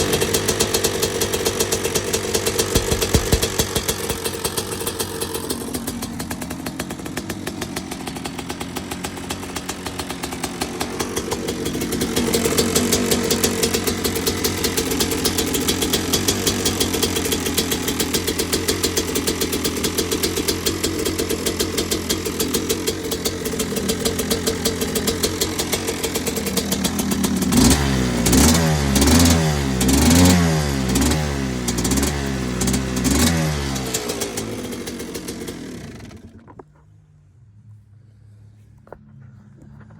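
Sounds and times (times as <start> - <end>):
small engine running: 0.0 - 36.9.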